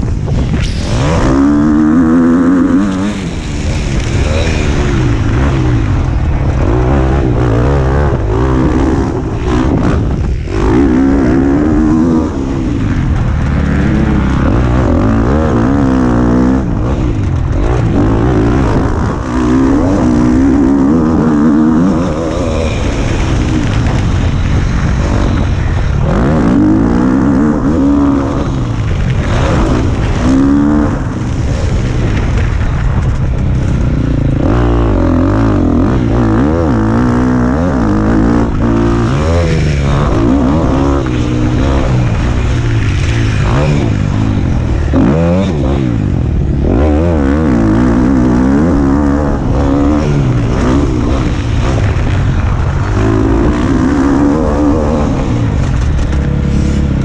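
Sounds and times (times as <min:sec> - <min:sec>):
motocross bike engine revving: 0:00.0 - 0:57.0
wind rumble on microphone: 0:00.0 - 0:57.0.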